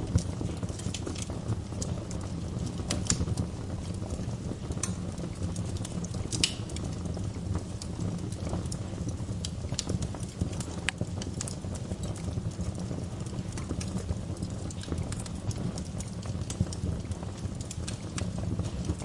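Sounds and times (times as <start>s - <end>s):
wood fire burning: 0.0s - 19.0s.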